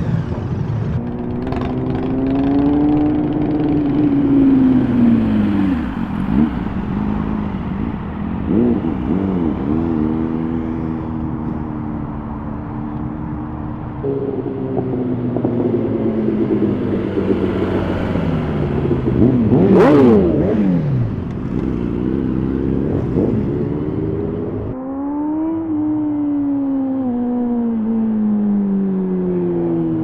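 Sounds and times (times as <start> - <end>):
motorcycle engines revving and passing: 0.0 - 30.0.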